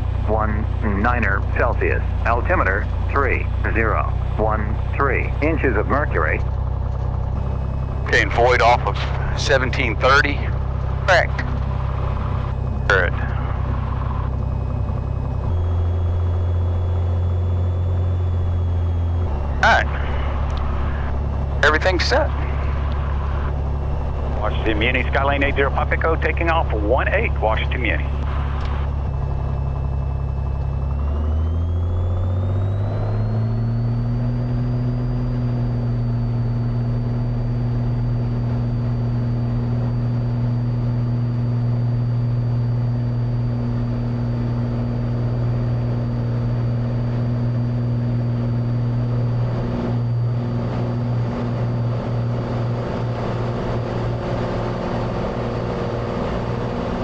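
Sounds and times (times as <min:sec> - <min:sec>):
propeller plane engine at full power: 0:00.0 - 0:57.0.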